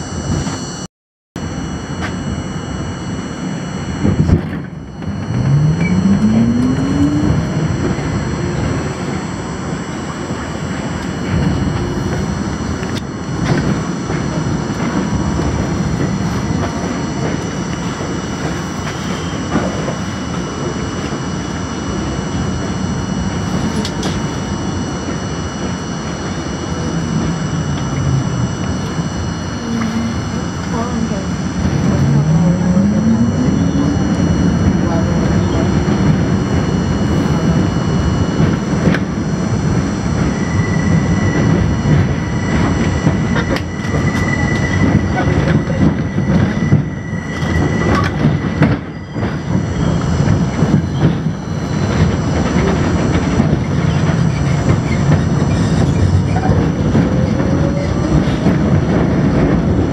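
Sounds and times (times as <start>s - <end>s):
traction motors whining: 1.4s - 59.9s
train wheels rumbling and clattering: 1.5s - 2.4s, 3.1s - 59.9s.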